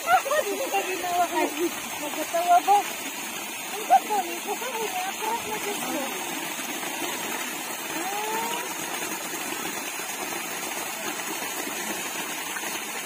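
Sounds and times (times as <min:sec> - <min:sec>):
water pouring into a pool: 0:00.0 - 0:13.0.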